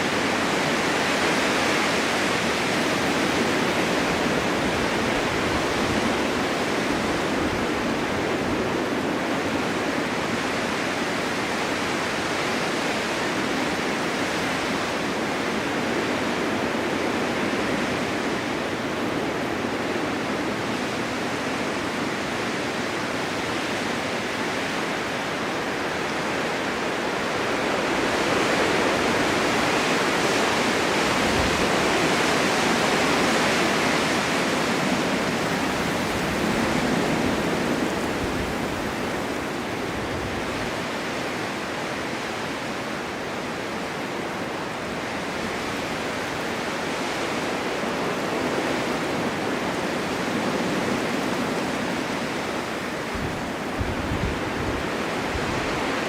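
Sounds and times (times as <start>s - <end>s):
blizzard wind driving snow: 0.0s - 56.0s.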